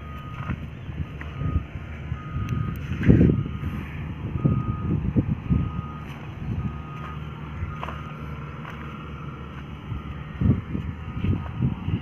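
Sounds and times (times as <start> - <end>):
reversing alarm beeping: 0.0 - 11.7.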